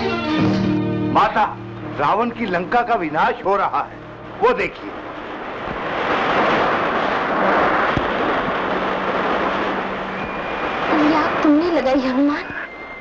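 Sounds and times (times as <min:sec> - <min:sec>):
steady rushing fire noise: 0:01.1 - 0:13.0.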